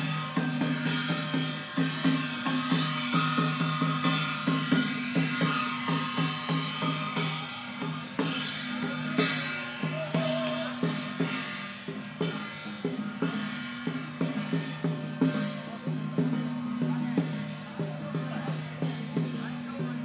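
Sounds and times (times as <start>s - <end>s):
cymbal crash: 0.0s - 17.6s
percussion band drums and gongs: 0.0s - 20.0s.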